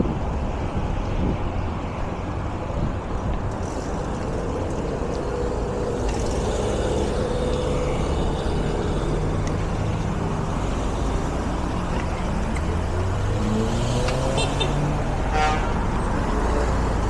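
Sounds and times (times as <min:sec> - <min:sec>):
low traffic rumble: 0:00.0 - 0:17.0
vehicle engine running: 0:03.2 - 0:17.0.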